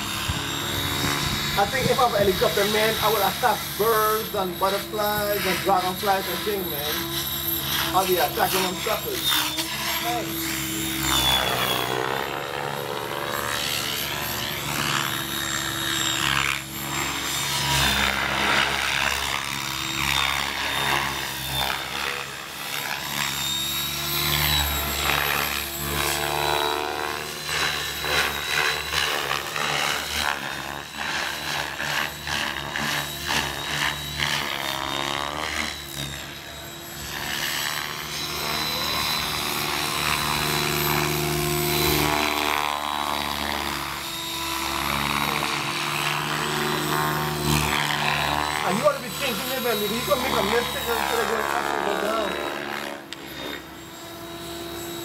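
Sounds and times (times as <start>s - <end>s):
helicopter motor whine: 0.0s - 55.0s
rotor blades whooshing: 0.0s - 55.0s.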